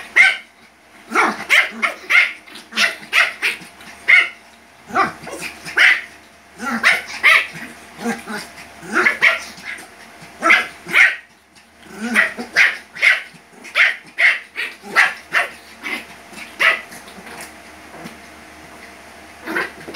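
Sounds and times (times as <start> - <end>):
small dogs yapping: 0.0 - 18.3, 19.4 - 19.9.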